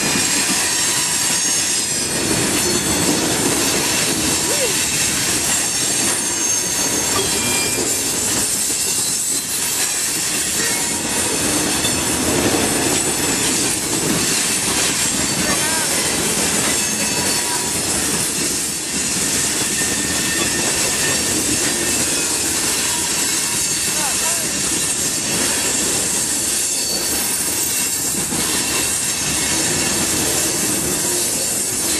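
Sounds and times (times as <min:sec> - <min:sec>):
freight cars rolling on rails: 0:00.0 - 0:31.9.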